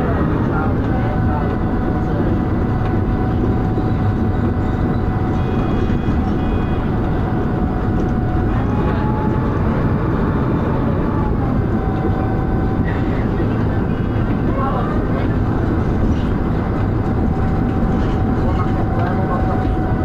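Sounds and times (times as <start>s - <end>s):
bus diesel engine rumble: 0.0s - 20.0s
high-pitched whine: 0.0s - 20.0s.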